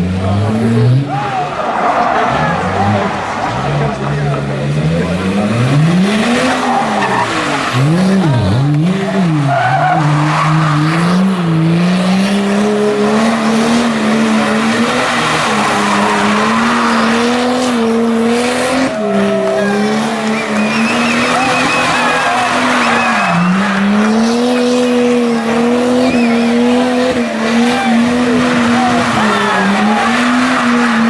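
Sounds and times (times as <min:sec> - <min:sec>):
car engine revving hard: 0:00.0 - 0:31.0
tyres squealing: 0:00.9 - 0:31.0.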